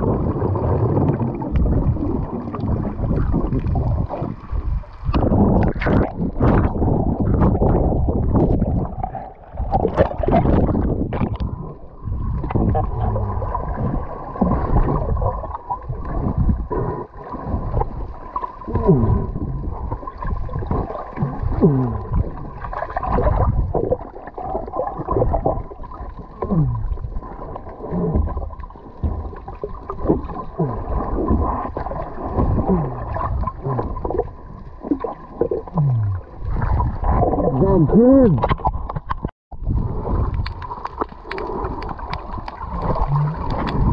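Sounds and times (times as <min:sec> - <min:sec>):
air bubbles gurgling: 0:00.0 - 0:43.9
water moving underwater: 0:00.0 - 0:43.9.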